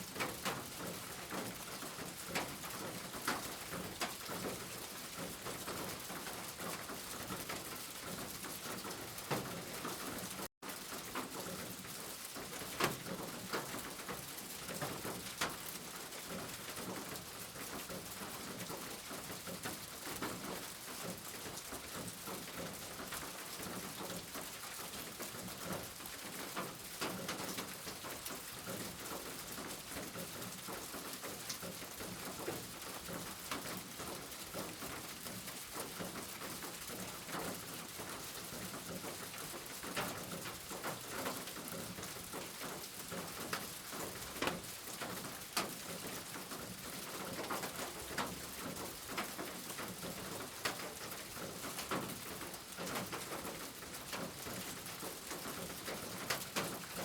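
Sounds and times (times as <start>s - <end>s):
steady rain falling: 0.0s - 57.0s
raindrops tapping close by: 0.1s - 57.0s.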